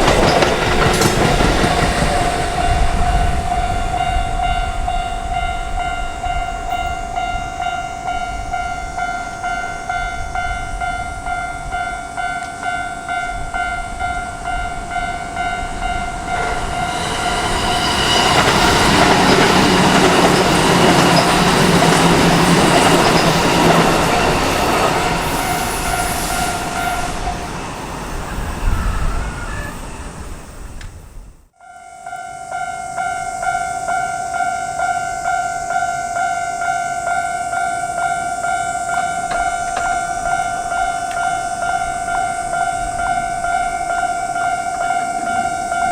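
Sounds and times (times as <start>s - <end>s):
level-crossing warning bell: 0.0s - 30.2s, 31.5s - 45.9s
train running noise: 0.0s - 45.9s.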